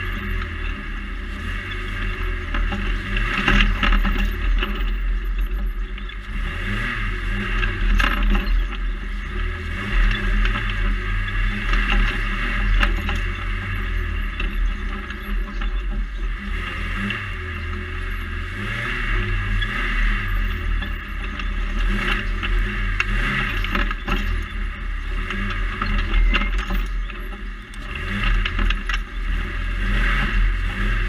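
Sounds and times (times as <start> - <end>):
buggy engine revving: 0.0 - 31.0.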